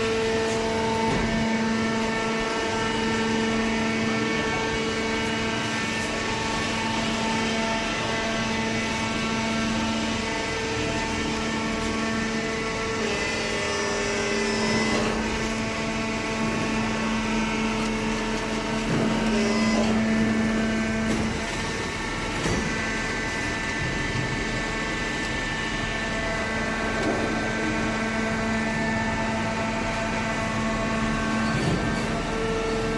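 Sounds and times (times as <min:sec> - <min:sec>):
baling press motor hum and whine: 0:00.0 - 0:32.9.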